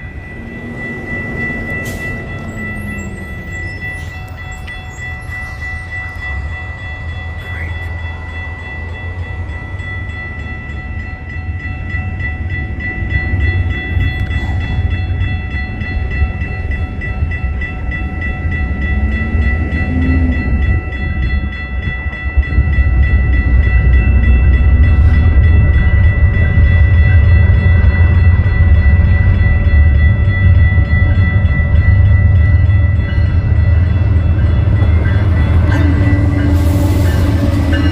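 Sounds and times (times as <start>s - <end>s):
steady high ringing: 0.0s - 37.9s
train rumbling past: 0.0s - 37.9s.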